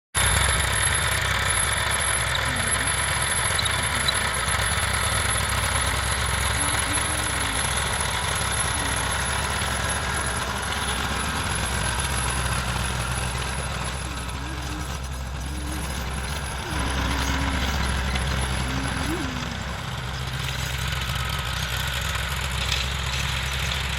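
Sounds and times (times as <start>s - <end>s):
tractor diesel engine running: 0.2s - 23.9s.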